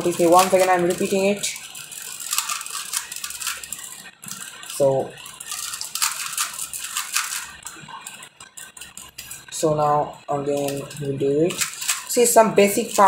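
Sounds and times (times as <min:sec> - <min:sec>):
puzzle cube clicking and rattling: 0:00.0 - 0:09.6, 0:10.5 - 0:13.0.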